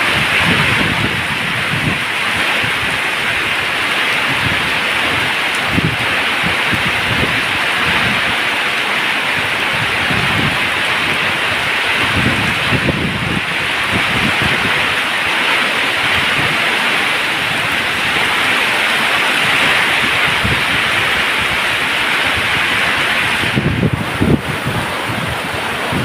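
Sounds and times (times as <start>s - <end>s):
low rumbles: 0.0s - 26.0s
waterfall rushing: 0.0s - 26.0s.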